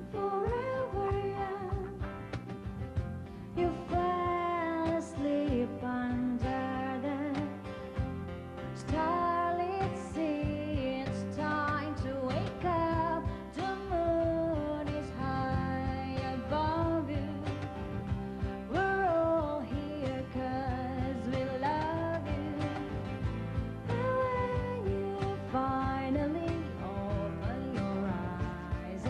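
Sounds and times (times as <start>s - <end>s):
pop song with singing: 0.0s - 29.0s.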